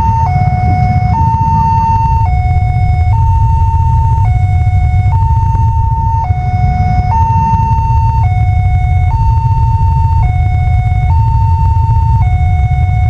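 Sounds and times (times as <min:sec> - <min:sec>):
level crossing two-tone alarm: 0:00.0 - 0:13.0
steady low rumble: 0:00.0 - 0:13.0.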